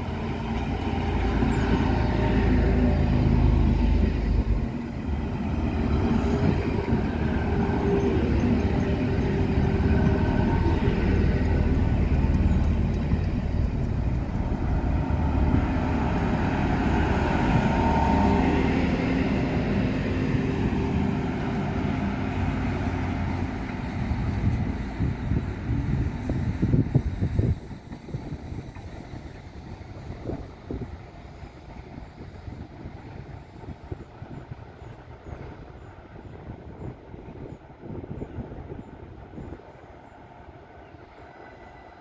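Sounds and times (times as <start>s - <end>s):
diesel train rumbling past: 0.0s - 42.0s.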